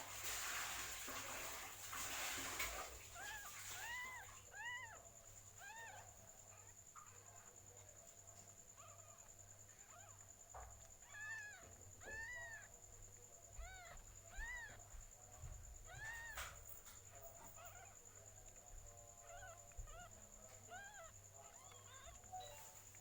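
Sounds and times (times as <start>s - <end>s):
kittens mewing: 2.4s - 23.0s.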